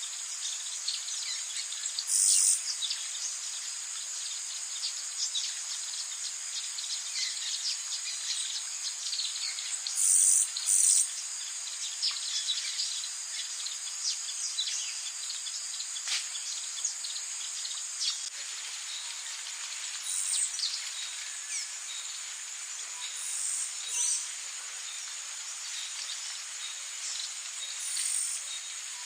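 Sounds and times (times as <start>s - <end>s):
insect chorus: 0.0s - 29.0s
loud high insect buzz: 0.0s - 29.0s.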